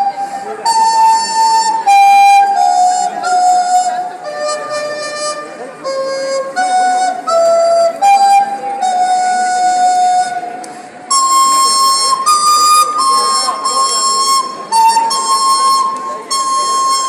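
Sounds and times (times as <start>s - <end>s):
flute playing slow melody: 0.0s - 17.0s.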